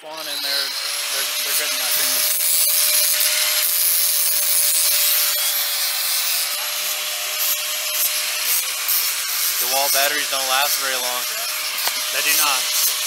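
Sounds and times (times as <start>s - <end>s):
power tool cutting metal: 0.0s - 13.0s.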